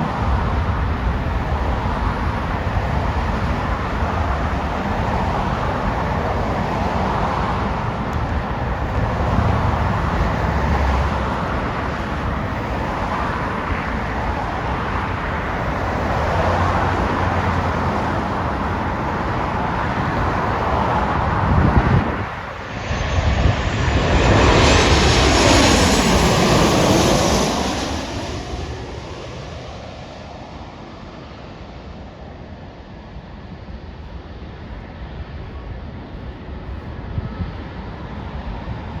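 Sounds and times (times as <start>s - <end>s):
jet airliner engines roaring: 0.0s - 39.0s.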